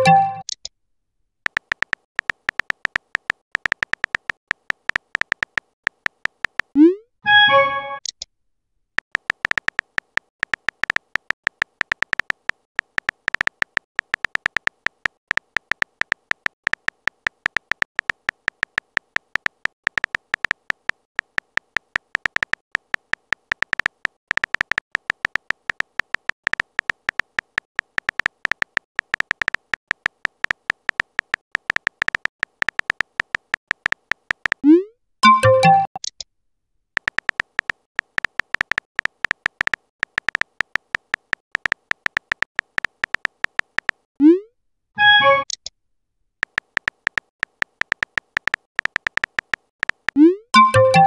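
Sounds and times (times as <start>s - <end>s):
phone keyboard typing clicks: 1.5s - 6.9s, 9.0s - 34.6s, 35.2s - 36.2s, 37.0s - 44.1s, 46.4s - 51.0s.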